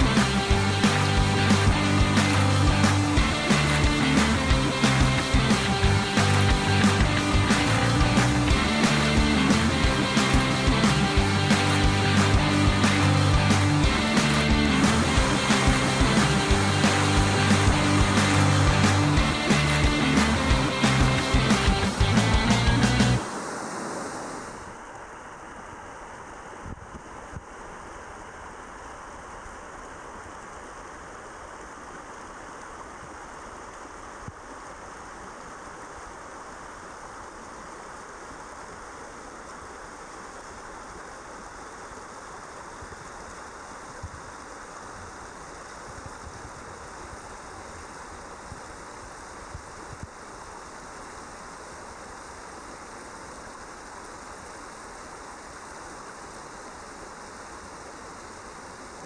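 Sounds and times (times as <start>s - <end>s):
river rapids rushing over rocks: 0.0s - 59.0s.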